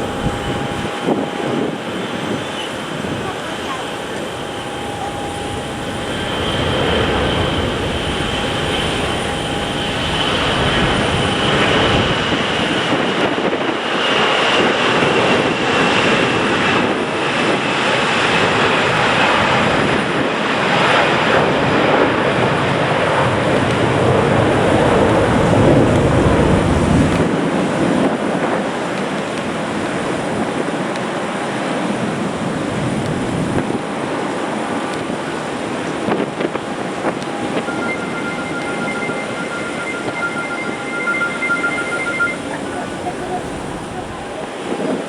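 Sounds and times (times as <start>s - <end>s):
jet fan whine: 0.0s - 27.4s, 32.0s - 45.0s
jet engines roaring: 0.0s - 45.0s.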